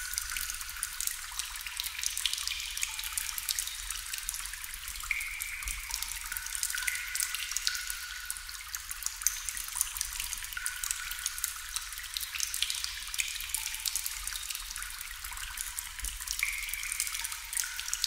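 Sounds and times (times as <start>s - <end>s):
water dripping: 0.0s - 18.0s.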